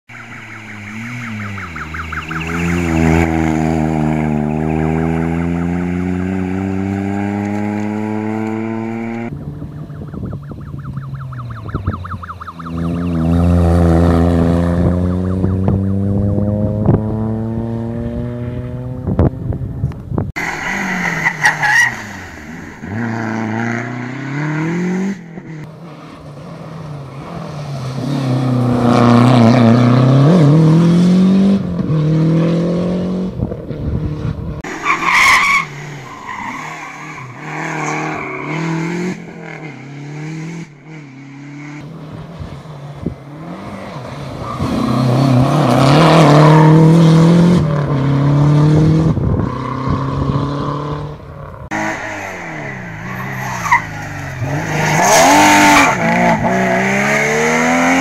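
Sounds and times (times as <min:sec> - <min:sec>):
rally car engines revving: 0:00.1 - 0:58.0.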